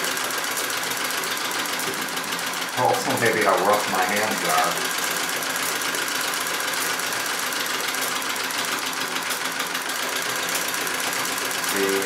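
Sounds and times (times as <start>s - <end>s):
sewing machine clattering: 0.0s - 12.0s.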